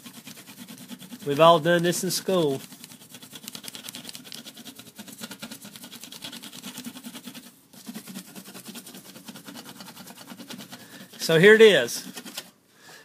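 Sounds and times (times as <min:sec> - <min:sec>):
pencil scratching on paper: 0:00.0 - 0:12.5.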